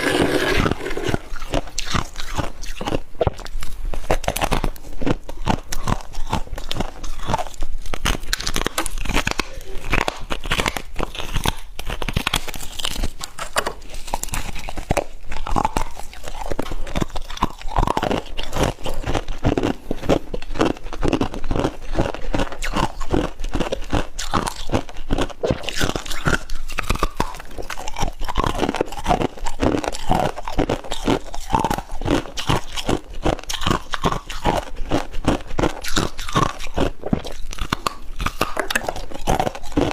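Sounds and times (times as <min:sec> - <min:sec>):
person chewing crunchy frost: 0:00.0 - 0:39.9.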